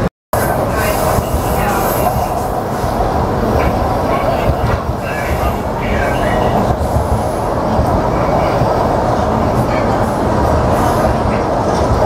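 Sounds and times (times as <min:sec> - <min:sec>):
train wheels rumbling: 0:00.4 - 0:12.0.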